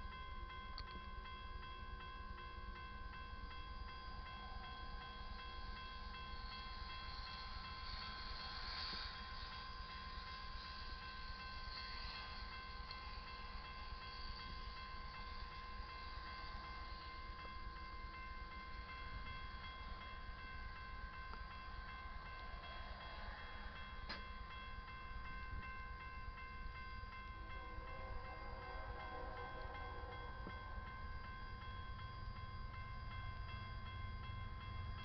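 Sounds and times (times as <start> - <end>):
crossing bell ringing: 0.0 - 35.0
diesel train rumble: 0.0 - 35.0.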